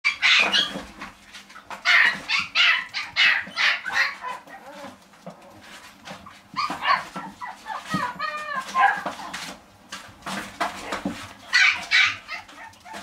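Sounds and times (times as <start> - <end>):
puppies yapping: 0.1 - 9.6, 11.4 - 13.0.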